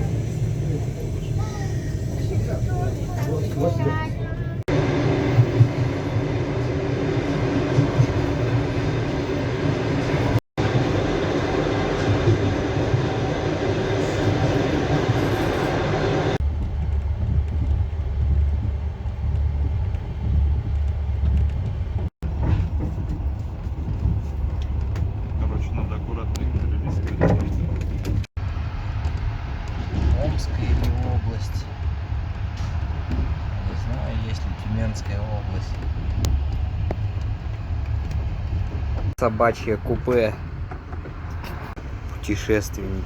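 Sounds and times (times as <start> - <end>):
deep train hum: 0.0 - 43.0
train carriage rumble and rattle: 0.0 - 43.0.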